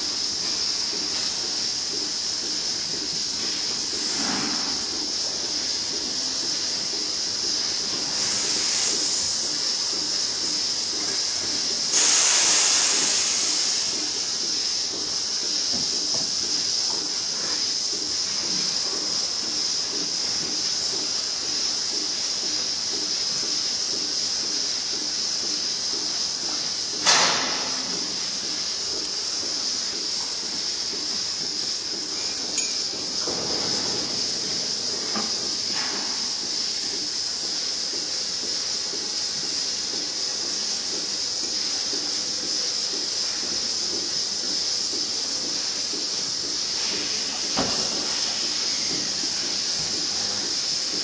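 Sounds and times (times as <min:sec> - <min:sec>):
robot hissing with low pulsing: 0:00.0 - 0:51.0.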